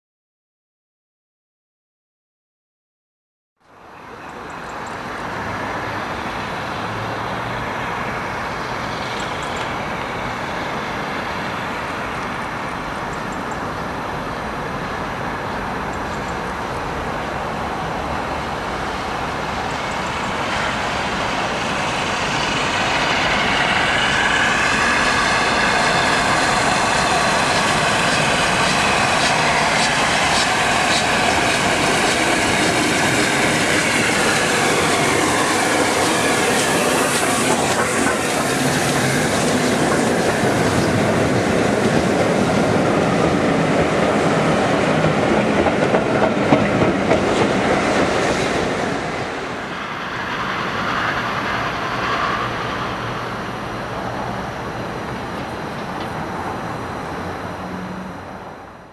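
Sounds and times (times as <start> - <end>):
steam train passing: 3.7 - 58.9.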